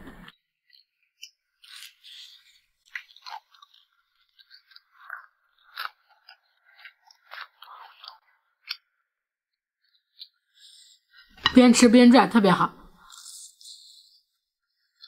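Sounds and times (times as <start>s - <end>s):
person chewing crispy bread: 0.4s - 11.3s, 13.0s - 15.0s.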